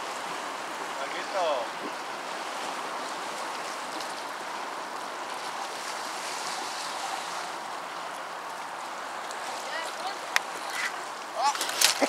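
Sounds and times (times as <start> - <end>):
sea waves washing against rocks: 0.0 - 12.0
wind: 0.0 - 12.0.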